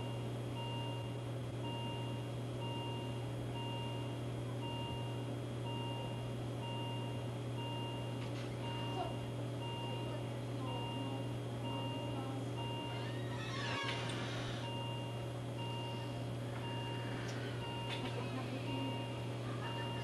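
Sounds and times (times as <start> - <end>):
constant low hum: 0.0 - 20.0
patient monitor alarm beeping: 0.0 - 20.0.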